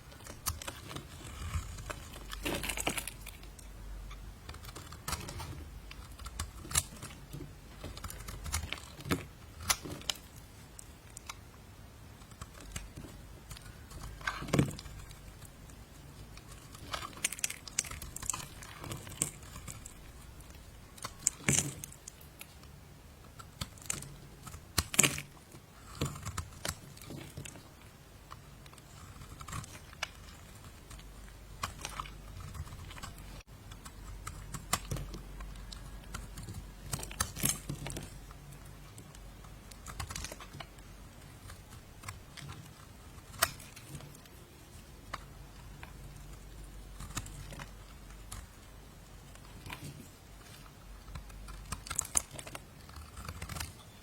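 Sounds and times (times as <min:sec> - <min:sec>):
knife carving soap: 0:00.1 - 0:11.5, 0:12.2 - 0:22.7, 0:23.3 - 0:54.0.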